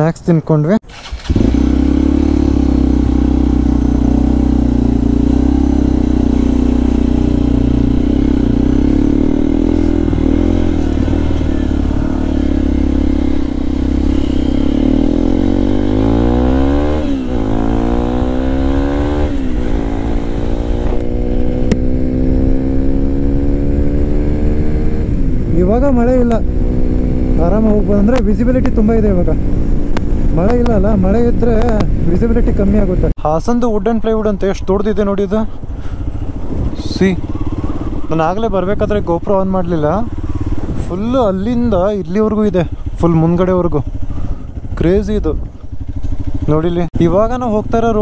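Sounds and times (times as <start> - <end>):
motorcycle engine accelerating: 0.9 - 48.0.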